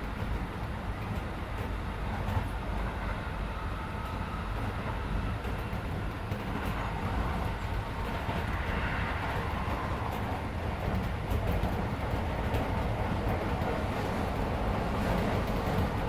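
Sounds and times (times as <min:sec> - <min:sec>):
faint train whine: 0:00.0 - 0:16.0
train wheels rumbling on rail: 0:00.0 - 0:16.0.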